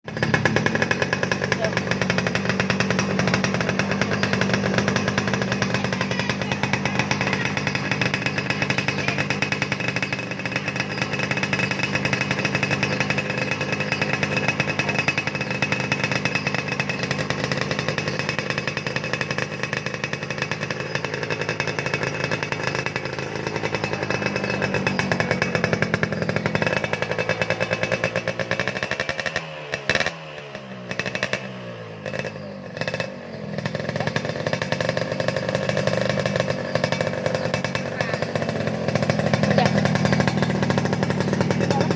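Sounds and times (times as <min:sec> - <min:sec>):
two-stroke engine buzzing: 0:00.0 - 0:41.9.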